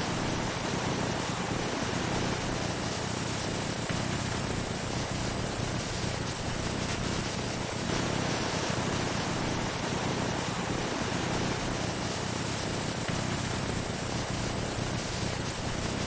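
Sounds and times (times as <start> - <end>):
factory machinery hiss and hum: 0.0 - 16.0.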